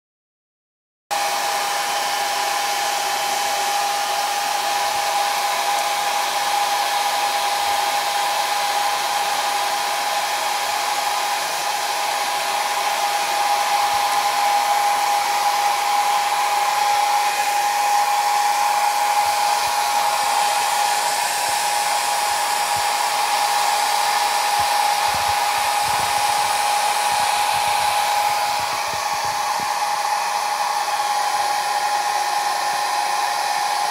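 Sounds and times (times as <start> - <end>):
hair dryer blowing: 1.1 - 33.9.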